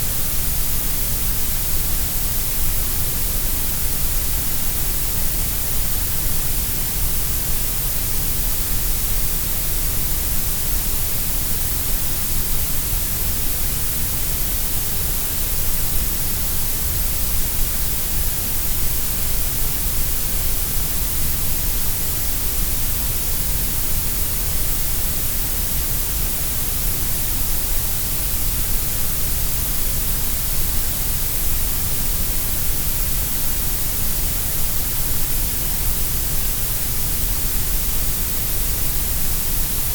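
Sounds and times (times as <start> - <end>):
steady grey noise hiss: 0.0 - 39.9.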